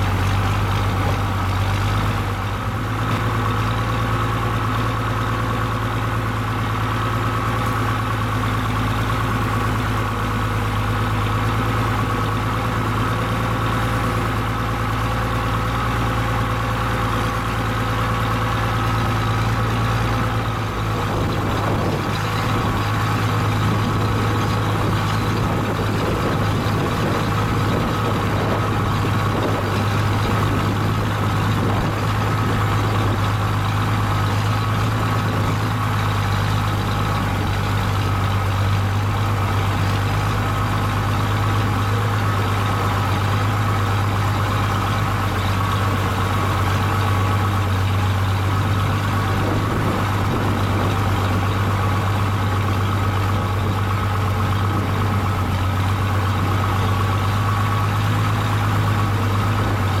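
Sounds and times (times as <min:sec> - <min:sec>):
vehicle engine droning: 0:00.0 - 1:00.0.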